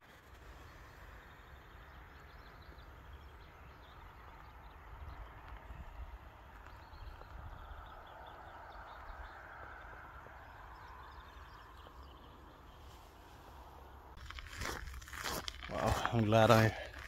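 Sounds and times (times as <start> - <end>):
low wind rumble: 0.0 - 17.0
distant traffic hum: 0.1 - 17.0.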